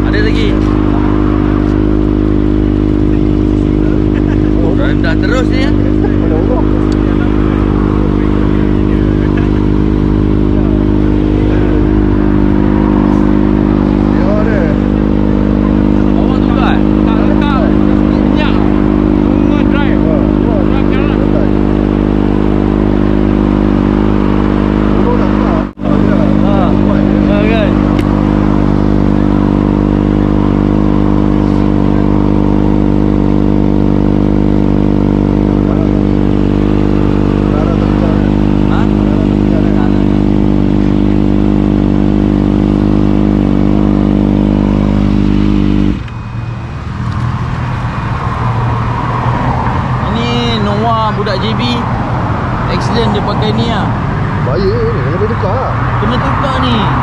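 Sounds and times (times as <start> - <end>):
motorcycle engine idling: 0.0 - 49.1.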